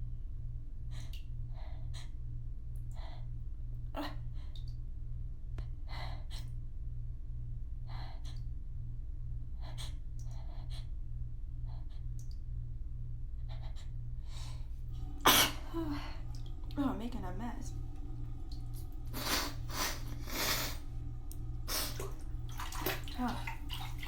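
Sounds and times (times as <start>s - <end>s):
low pulsing hum: 0.0s - 24.0s.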